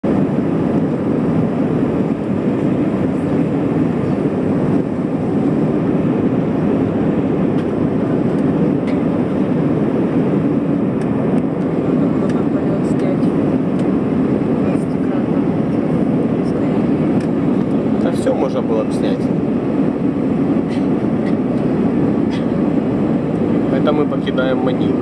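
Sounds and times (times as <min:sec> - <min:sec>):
airliner cabin noise: 0:00.0 - 0:25.0.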